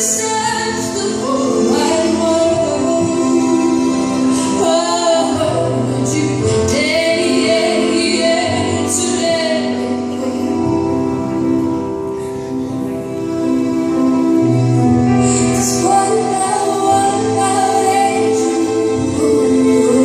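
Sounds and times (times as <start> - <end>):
woman singing: 0.0 - 11.7, 14.2 - 20.0
sustained instrumental backing: 0.0 - 20.0.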